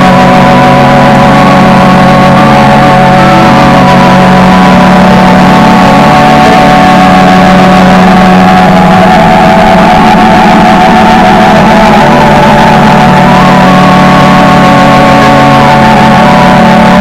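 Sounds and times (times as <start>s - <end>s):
distorted electronic drone: 0.0s - 17.0s.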